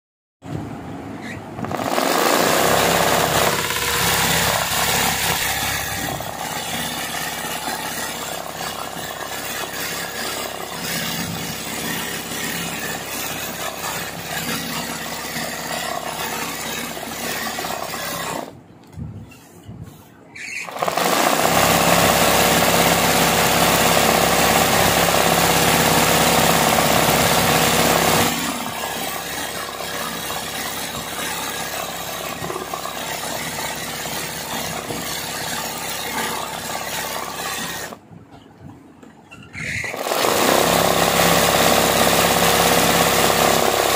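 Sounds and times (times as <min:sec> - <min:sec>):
electric sewing machine running: 0:01.6 - 0:18.5, 0:20.6 - 0:38.0, 0:39.8 - 0:43.9.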